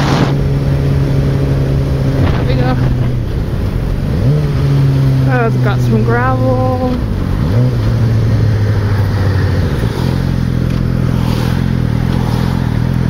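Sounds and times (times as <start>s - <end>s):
motorcycle engine running: 0.0s - 13.0s
riding noise: 0.0s - 13.0s.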